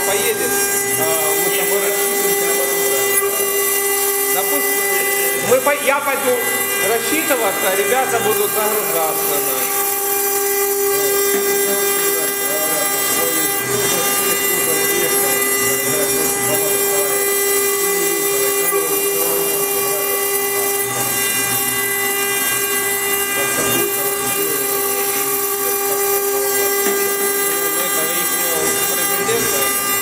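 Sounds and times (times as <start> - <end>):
bit grinding stone: 0.0 - 30.0
cnc router spindle whine: 0.0 - 30.0.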